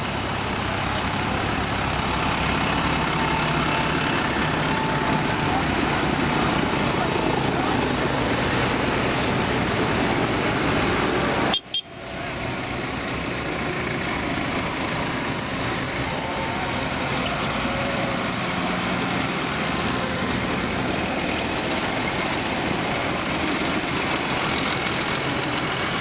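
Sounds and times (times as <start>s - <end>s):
diesel tractors driving past: 0.0s - 26.0s.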